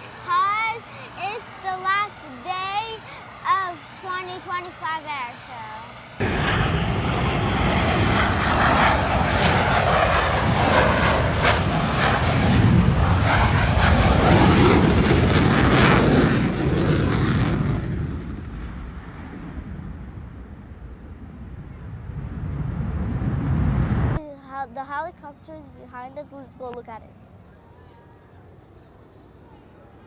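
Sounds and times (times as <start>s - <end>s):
plane engine roar flying past: 0.0s - 30.0s.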